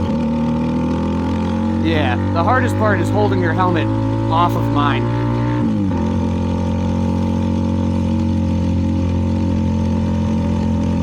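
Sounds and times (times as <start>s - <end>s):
motorcycle engine while riding: 0.0s - 11.0s.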